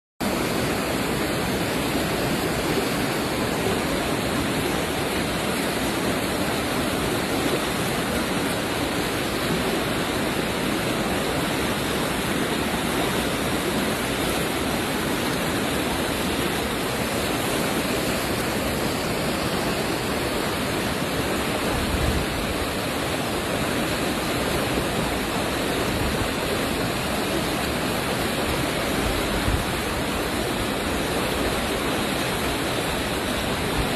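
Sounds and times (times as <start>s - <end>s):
floodwater rushing: 0.2s - 33.9s.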